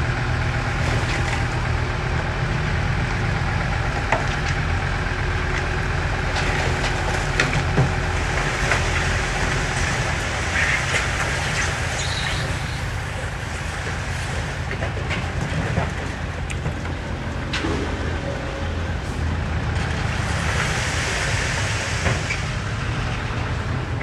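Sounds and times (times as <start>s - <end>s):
diesel engine rumbling under load: 0.0s - 24.0s.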